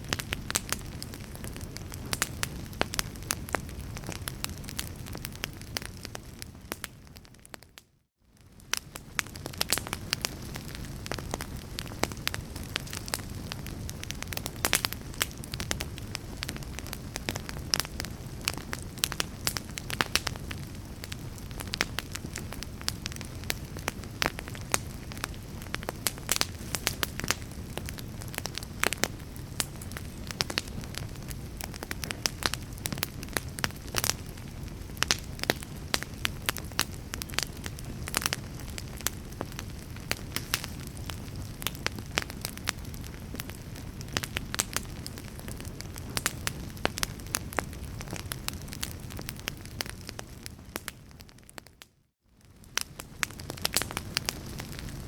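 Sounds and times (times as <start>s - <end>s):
wood fire crackling: 0.0s - 51.8s, 52.4s - 55.0s.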